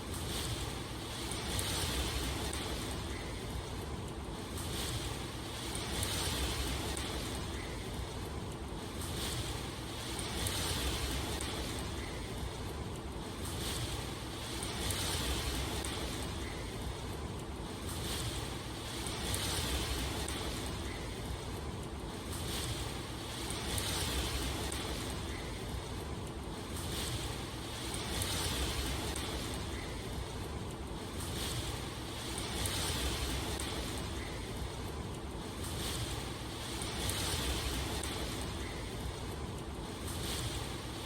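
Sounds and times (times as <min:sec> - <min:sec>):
rushing hiss of water: 0:00.0 - 0:41.0.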